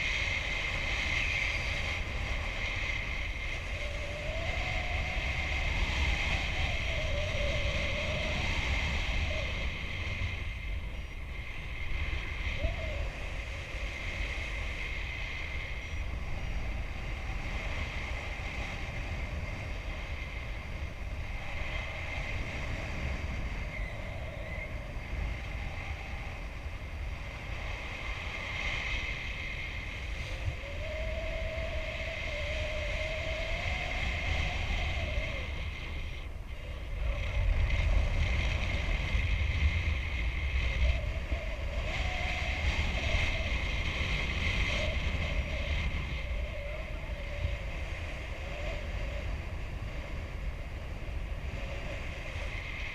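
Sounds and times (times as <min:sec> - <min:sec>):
wind rushing over microphone: 0:00.0 - 0:52.9
faint wavering whistle: 0:00.2 - 0:27.1, 0:27.9 - 0:37.7, 0:39.6 - 0:49.9.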